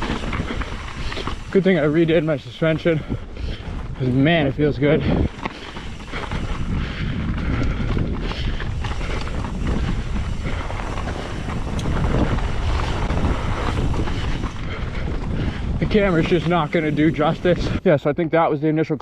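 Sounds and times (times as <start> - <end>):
bike clicks and rattles: 0.0 - 17.8
wind buffeting microphone: 0.0 - 17.9
bike tyres on rocky trail: 0.0 - 19.0.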